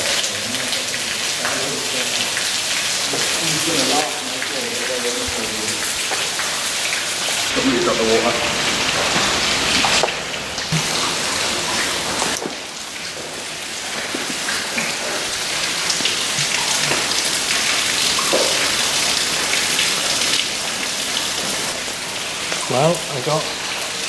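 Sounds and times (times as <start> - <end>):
heavy rain falling: 0.0 - 24.0
raindrops clicking close by: 0.0 - 24.0.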